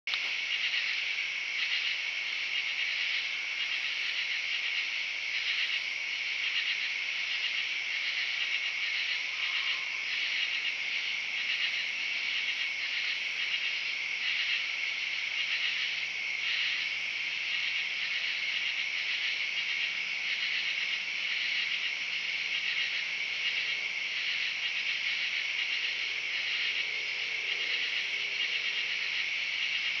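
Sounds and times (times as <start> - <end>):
insects trilling: 0.1 - 30.0.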